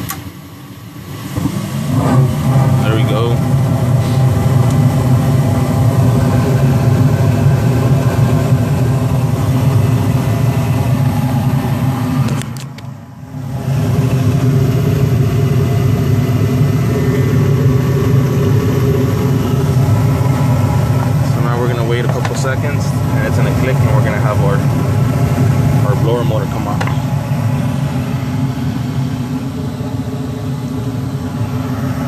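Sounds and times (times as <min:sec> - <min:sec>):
gas heater burners rumbling: 0:00.0 - 0:32.0.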